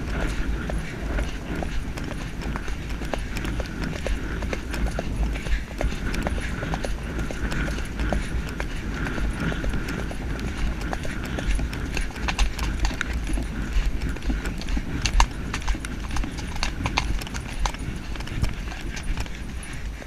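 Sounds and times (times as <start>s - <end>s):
horse hoofbeats on grass: 0.0s - 20.0s.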